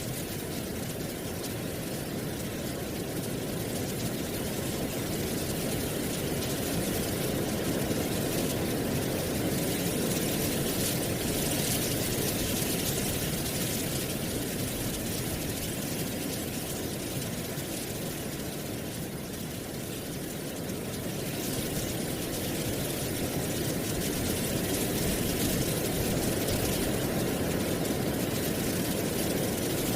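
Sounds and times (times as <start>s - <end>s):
wind blowing through trees: 0.0s - 29.9s.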